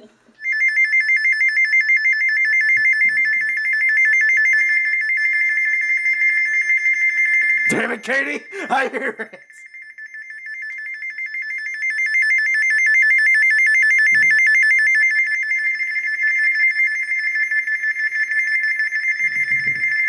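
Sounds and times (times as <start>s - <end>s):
pulsing electronic alarm tone: 0.4s - 20.0s.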